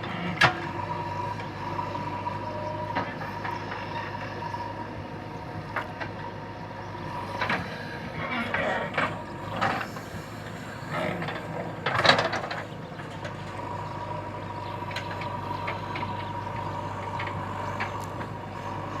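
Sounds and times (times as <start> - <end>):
backhoe loader engine running: 0.0 - 19.0.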